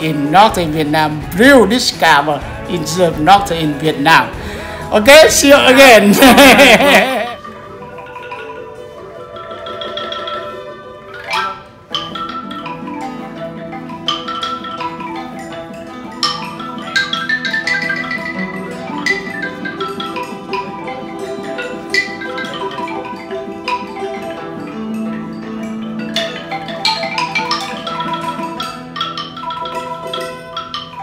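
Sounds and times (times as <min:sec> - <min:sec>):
bamboo xylophone struck with mallets: 0:00.0 - 0:31.0
plucked zither melody: 0:00.0 - 0:31.0.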